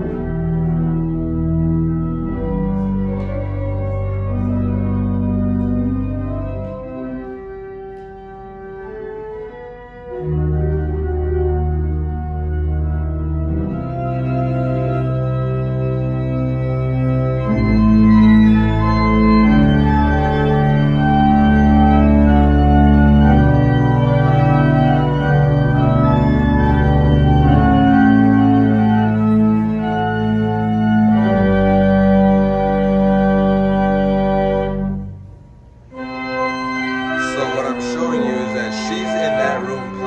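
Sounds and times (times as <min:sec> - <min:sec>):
slow organ-like chords: 0:00.0 - 0:40.0.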